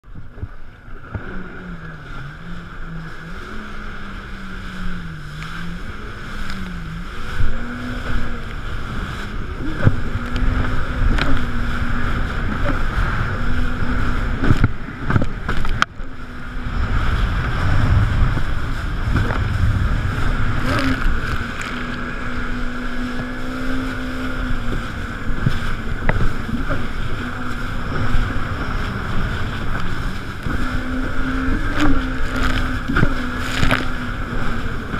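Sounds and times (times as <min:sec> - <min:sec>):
hull thumping on waves: 0:00.0 - 0:34.9
jet ski engine running: 0:00.0 - 0:34.9
wind on microphone: 0:00.0 - 0:34.9.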